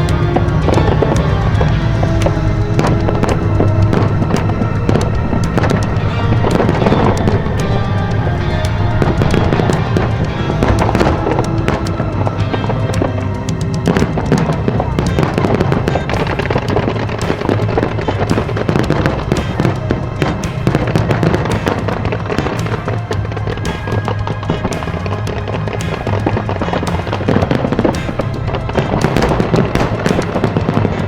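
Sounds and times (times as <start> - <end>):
fireworks cracking and popping: 0.0 - 31.0
loud music with bass: 0.0 - 31.0.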